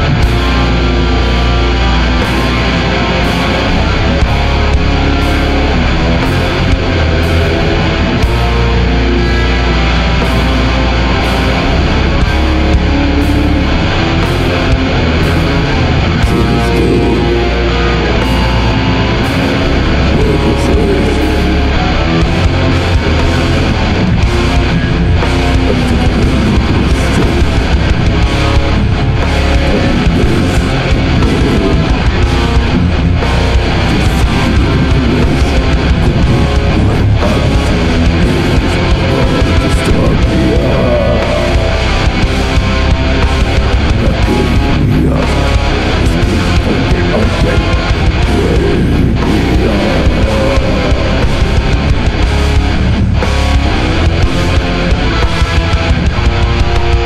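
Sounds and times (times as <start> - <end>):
distorted metal music: 0.0 - 57.0.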